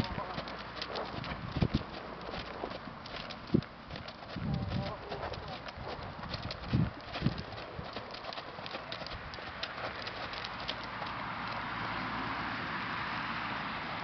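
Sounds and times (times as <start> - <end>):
horse hoofbeats on sand: 0.0 - 11.7
steady rushing noise: 0.0 - 12.0.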